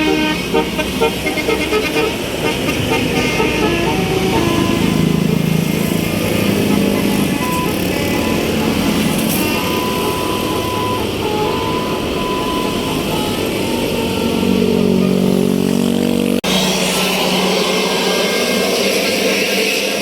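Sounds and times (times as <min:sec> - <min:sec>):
bus engine passing: 0:00.0 - 0:20.0
vehicle noise: 0:00.0 - 0:20.0.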